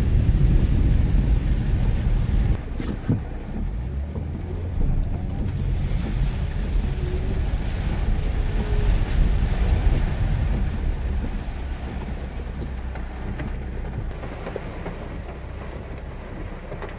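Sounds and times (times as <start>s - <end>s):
car engine and road rumble: 0.0s - 16.9s.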